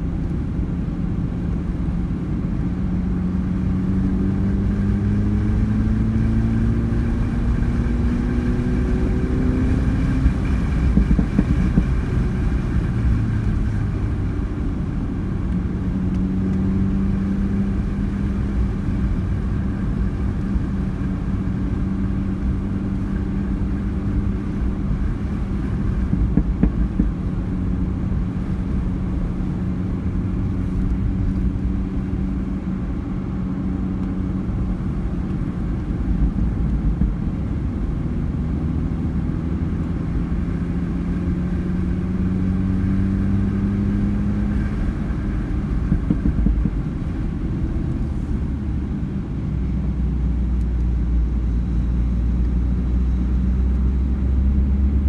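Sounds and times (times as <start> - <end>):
car engine running: 0.0 - 55.0
road and tyre noise: 0.0 - 55.0.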